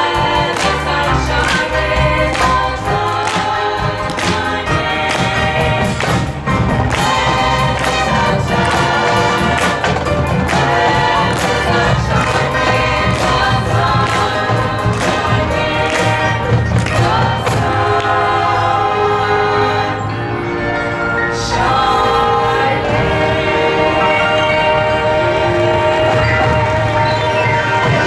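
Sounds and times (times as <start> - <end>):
marching band playing: 0.0 - 28.0.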